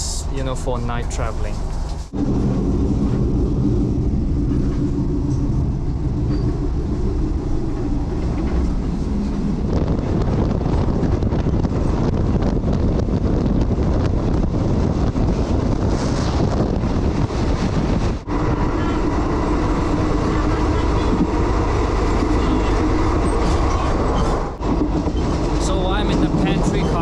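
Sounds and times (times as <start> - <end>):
train hum: 0.0 - 27.0
train wheels rumbling on track: 0.0 - 27.0.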